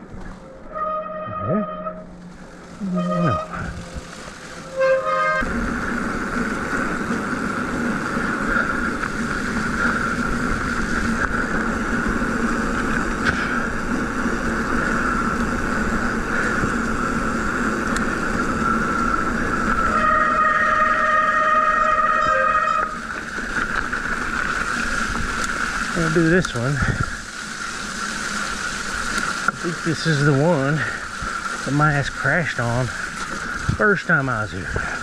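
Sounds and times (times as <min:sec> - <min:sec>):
bike tyres and drivetrain humming: 0:00.0 - 0:35.0.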